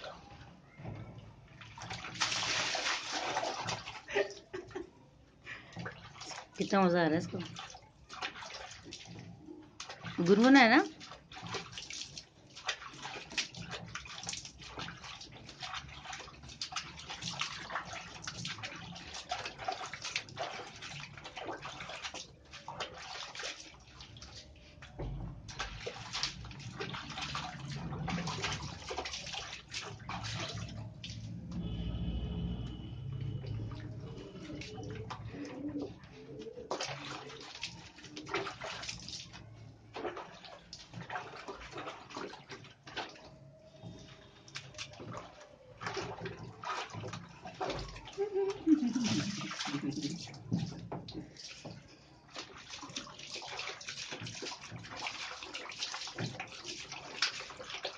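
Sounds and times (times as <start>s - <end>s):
water splashing in a plastic tub: 0.0s - 57.9s.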